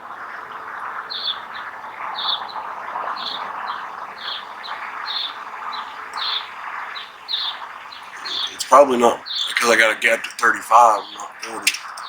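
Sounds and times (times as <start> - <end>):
bird chirping: 1.1 - 12.0
steady background hiss: 1.4 - 12.0.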